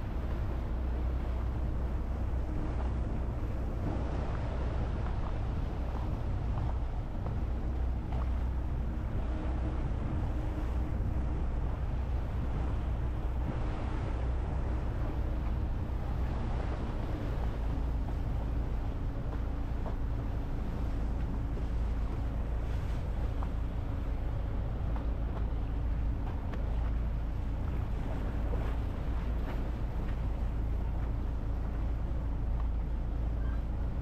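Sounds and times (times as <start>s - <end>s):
motorboat engine rumble: 0.0s - 34.0s
wind: 0.0s - 34.0s.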